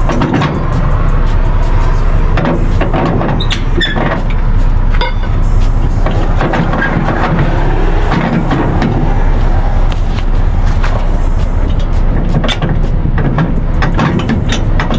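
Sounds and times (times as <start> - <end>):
knocks and clanks: 0.0 - 1.1, 2.3 - 14.9
diesel truck idling: 0.0 - 14.9.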